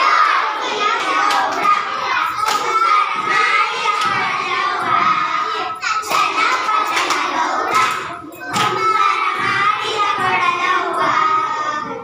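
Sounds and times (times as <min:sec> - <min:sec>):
children clapping: 0:00.0 - 0:12.0.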